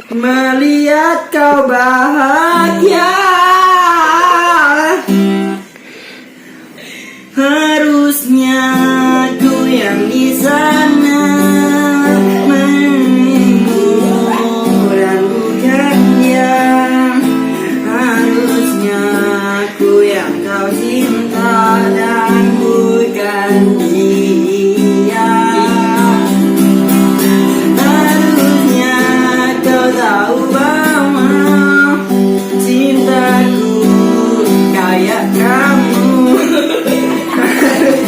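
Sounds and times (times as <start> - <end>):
person singing a ballad: 0.0 - 5.8, 6.8 - 38.0
acoustic guitar strumming: 0.0 - 38.0.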